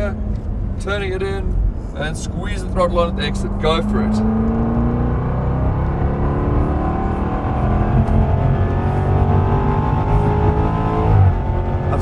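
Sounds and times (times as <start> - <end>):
car engine revving under full throttle: 0.0 - 12.0.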